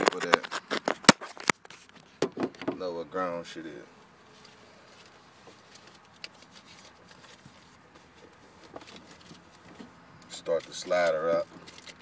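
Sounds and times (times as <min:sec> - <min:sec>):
phone clicks and rustles: 0:00.0 - 0:02.8, 0:04.3 - 0:12.0.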